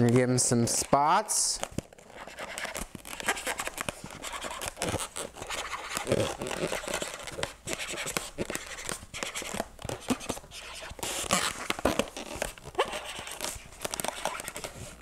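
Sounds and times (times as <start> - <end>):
marker scratching on balloon: 1.8 - 15.0.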